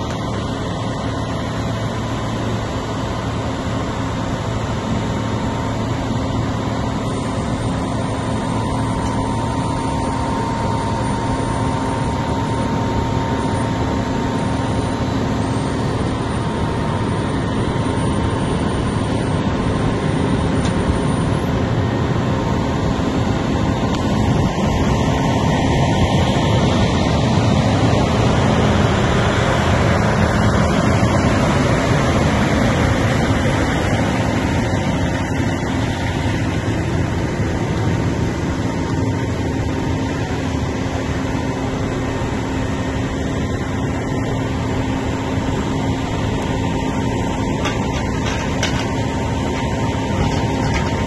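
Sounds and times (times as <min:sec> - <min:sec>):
crane diesel engine running: 0:00.0 - 0:51.0.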